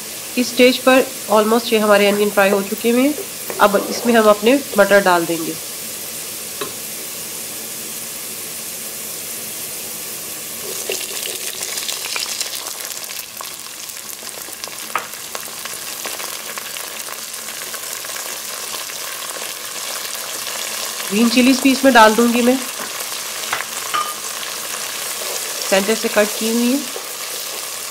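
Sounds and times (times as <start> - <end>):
onions sizzling in hot oil: 0.0 - 27.9.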